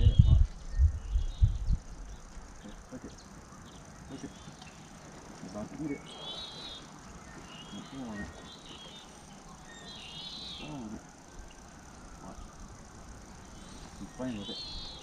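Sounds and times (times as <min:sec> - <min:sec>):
songbird warbling: 0:00.0 - 0:15.0.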